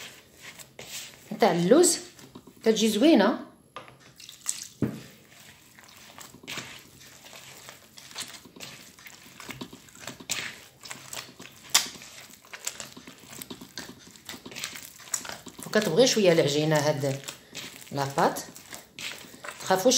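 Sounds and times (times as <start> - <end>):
hands kneading dough: 0.0 - 3.0, 4.0 - 19.9.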